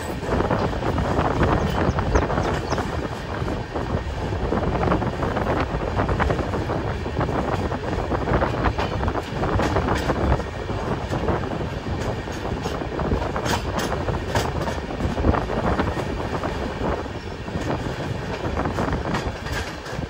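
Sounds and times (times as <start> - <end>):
train rumbling on track: 0.0 - 20.0
wheels clicking on rails: 0.0 - 20.0.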